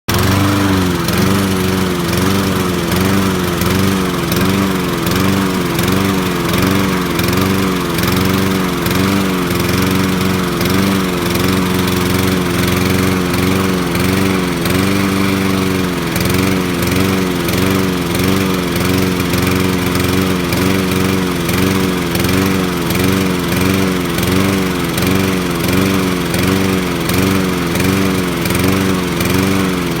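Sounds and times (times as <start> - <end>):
lawn mower engine misfiring: 0.0 - 30.0.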